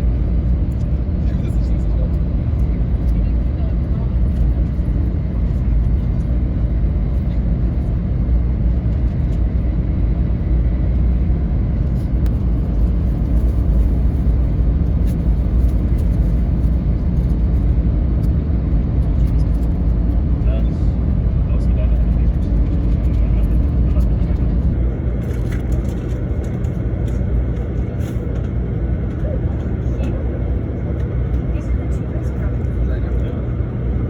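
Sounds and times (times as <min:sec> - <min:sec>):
train rumbling from inside: 0:00.0 - 0:34.0.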